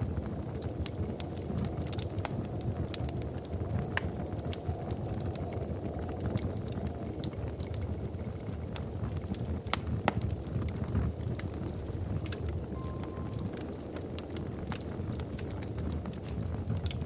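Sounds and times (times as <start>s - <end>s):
flames rumbling: 0.0s - 17.0s
wood crackles and pops: 0.0s - 17.0s.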